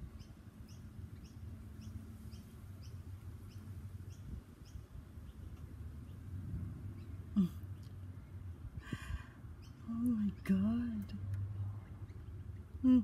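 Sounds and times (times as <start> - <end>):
bird chirping: 0.0 - 8.6, 9.6 - 13.0
faint low outdoor rumble: 0.0 - 13.0.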